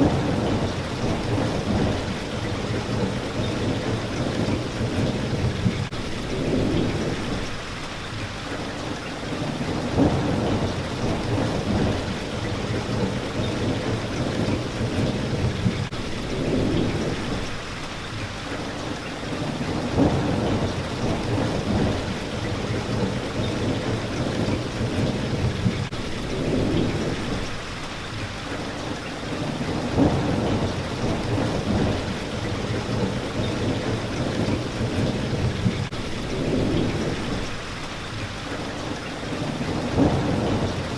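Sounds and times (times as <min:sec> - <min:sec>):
thunder rolling: 0:00.0 - 0:07.5, 0:09.4 - 0:17.5, 0:19.4 - 0:27.5, 0:29.3 - 0:37.5, 0:39.3 - 0:40.9
heavy rain on a window: 0:00.0 - 0:40.9.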